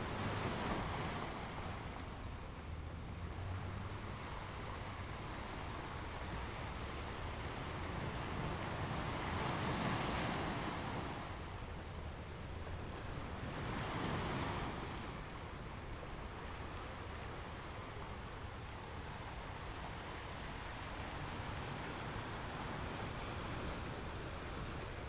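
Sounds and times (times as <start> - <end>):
waves washing in: 0.0 - 25.0.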